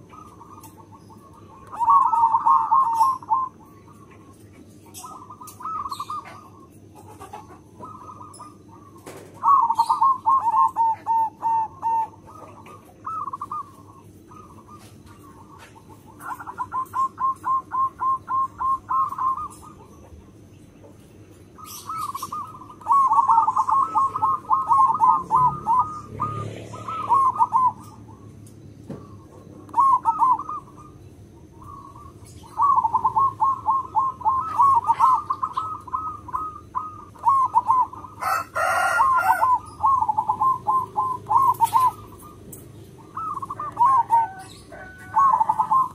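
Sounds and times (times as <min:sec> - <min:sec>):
dove cooing: 0:00.0 - 0:45.9.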